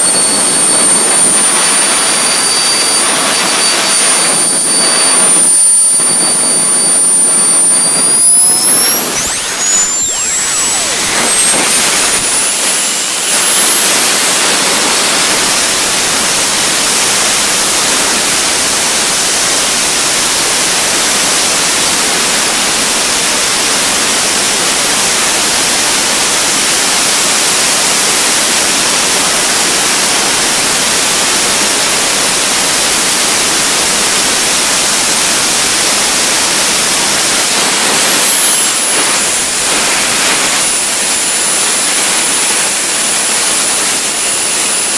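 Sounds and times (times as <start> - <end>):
small jet engine roaring: 0.0 - 44.9.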